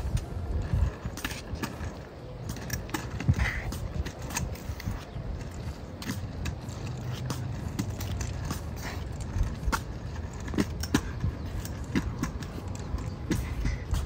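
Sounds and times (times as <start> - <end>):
kick scooter wheels rumbling: 0.0 - 14.0.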